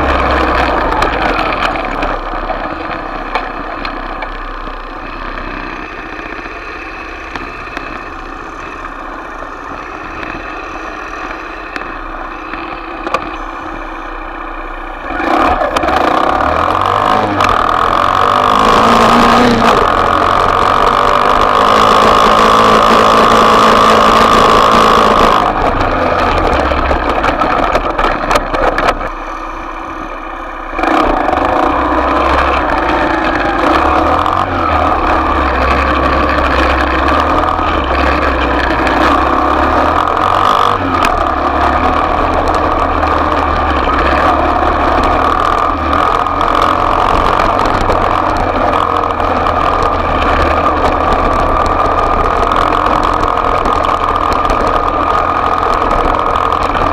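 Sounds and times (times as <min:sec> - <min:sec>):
small off-road bike engine: 0:00.0 - 0:56.9.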